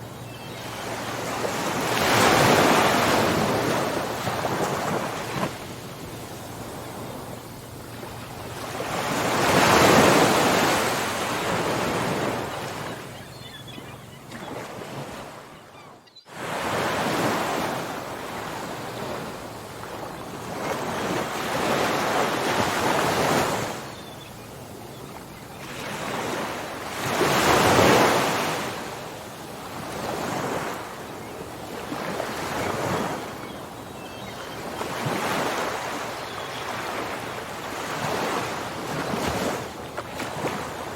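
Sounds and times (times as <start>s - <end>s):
waves breaking on shore: 0.0s - 15.5s, 16.3s - 24.1s, 24.9s - 40.9s.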